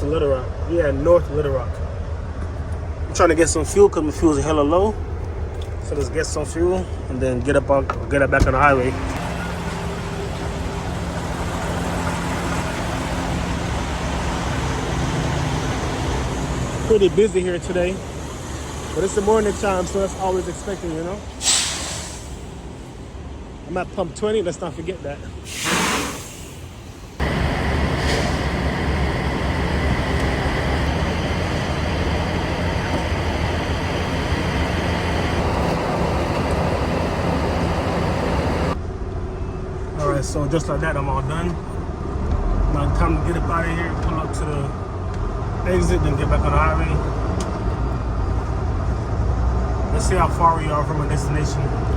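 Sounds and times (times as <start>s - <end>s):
truck diesel engine running: 0.0s - 24.1s, 24.7s - 42.3s
road noise: 0.0s - 51.9s.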